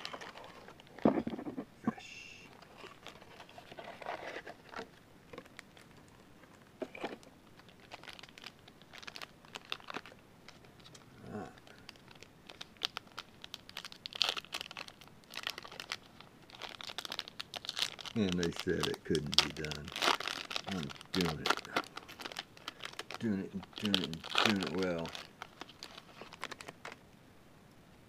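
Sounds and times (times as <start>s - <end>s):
foil packs crinkling: 0.0s - 1.1s, 2.5s - 27.0s.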